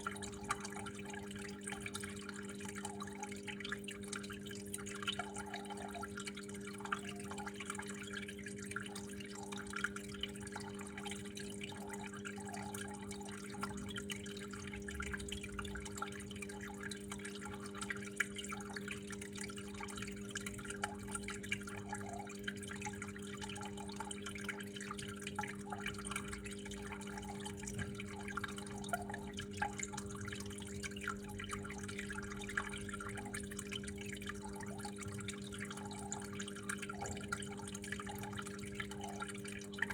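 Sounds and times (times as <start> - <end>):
low steady hum: 0.0 - 39.9
water flowing and dripping: 0.0 - 39.9.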